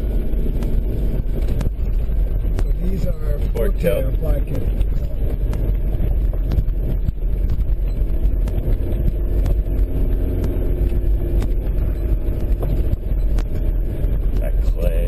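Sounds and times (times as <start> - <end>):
knocks and rattles over bumps: 0.0 - 14.9
vehicle engine and road rumble: 0.0 - 15.0.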